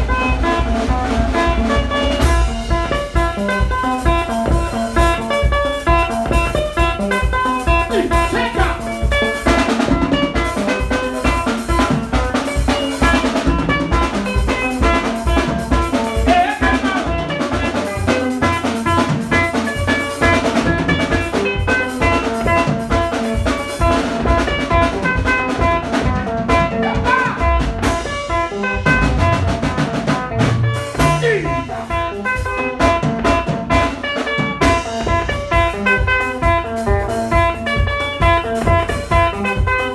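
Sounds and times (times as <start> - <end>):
drum kit beat: 0.0 - 39.9
electric guitars playing: 0.0 - 39.9.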